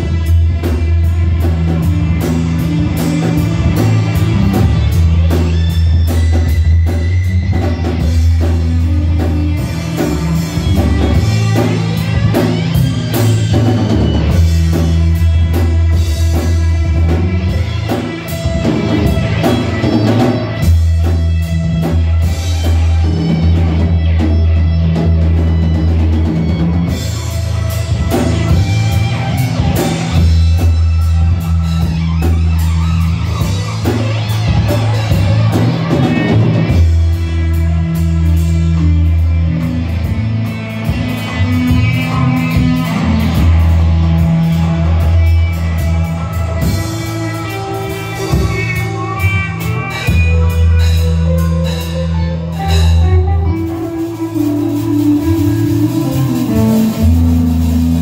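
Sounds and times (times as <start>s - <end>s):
electric bass notes: 0.0s - 58.0s
electric guitar: 0.0s - 58.0s.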